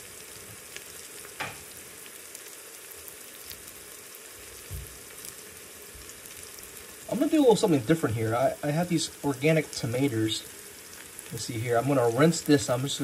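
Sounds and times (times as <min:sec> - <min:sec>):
onion sizzling in hot oil: 0:00.0 - 0:13.0.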